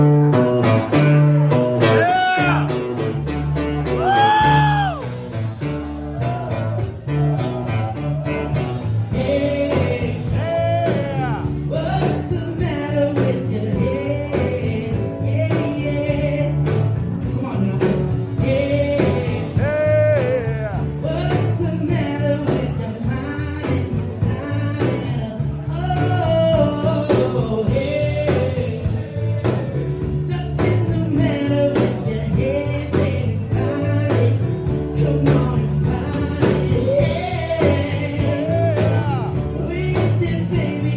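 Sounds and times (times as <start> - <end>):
person singing: 0.0 - 5.2, 6.2 - 40.9
band music with guitar: 0.0 - 40.9
low bass line: 0.0 - 40.9.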